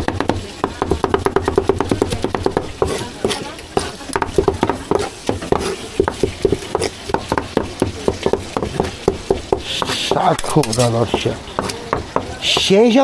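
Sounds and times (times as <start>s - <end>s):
cleaver chopping on wooden board: 0.0s - 13.0s.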